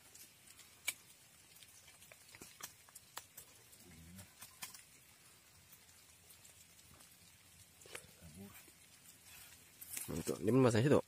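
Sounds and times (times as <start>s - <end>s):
faint ticks and clicks: 0.0s - 11.0s.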